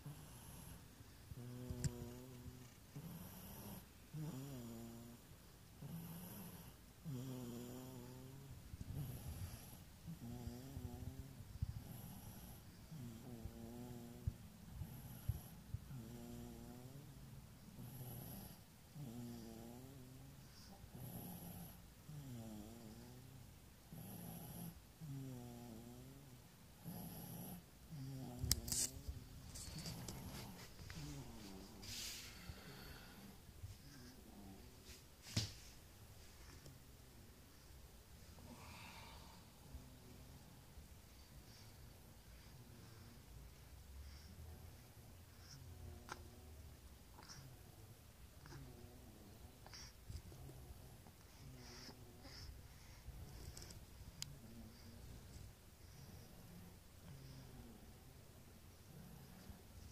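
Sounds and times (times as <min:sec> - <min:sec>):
soft breaths: 0:00.0 - 0:59.9.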